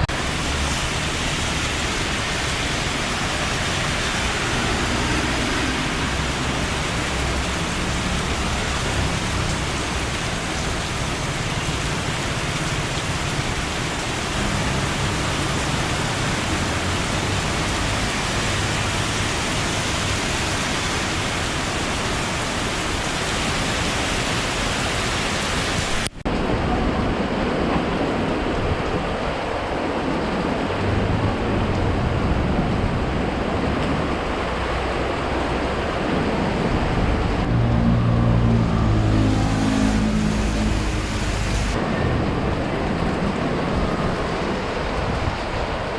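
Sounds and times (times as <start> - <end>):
heavy rain and wind: 0.0 - 45.9.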